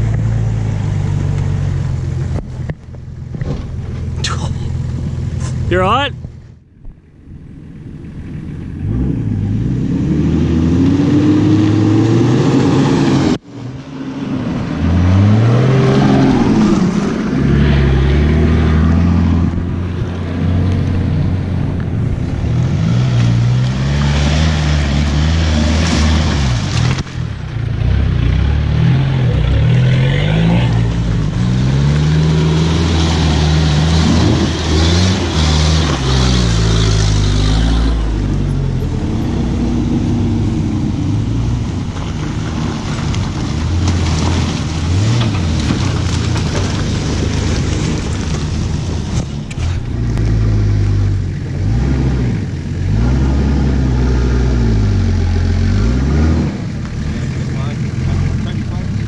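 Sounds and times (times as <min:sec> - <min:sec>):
vehicle engine revving: 0:07.4 - 0:59.0.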